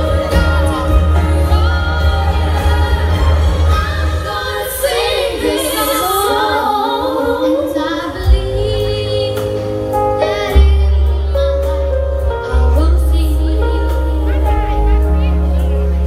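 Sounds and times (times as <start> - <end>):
heavy bass: 0.0 - 6.0, 8.2 - 16.0
woman singing: 0.0 - 16.0.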